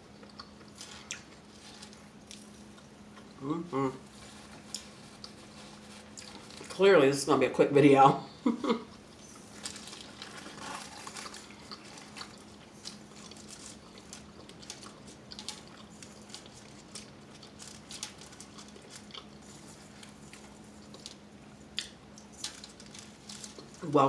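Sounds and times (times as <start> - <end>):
chewing and biting food: 0.1 - 3.4, 4.2 - 6.7, 8.9 - 23.8.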